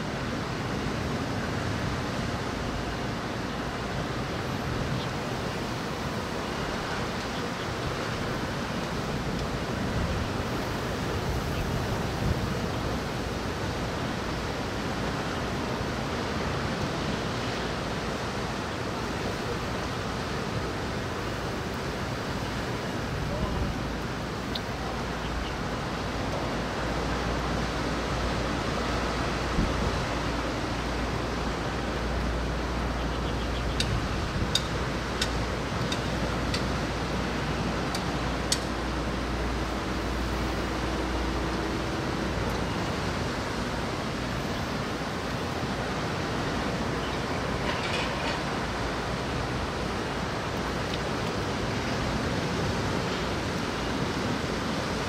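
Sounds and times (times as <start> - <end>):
rain: 0.0 - 55.0
wind: 0.0 - 55.0.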